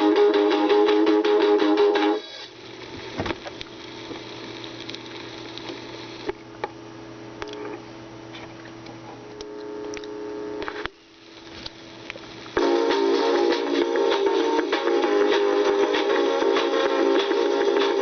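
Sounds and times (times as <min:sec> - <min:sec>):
faint hum: 0:00.0 - 0:18.0
vinyl record crackle and pops: 0:00.0 - 0:18.0.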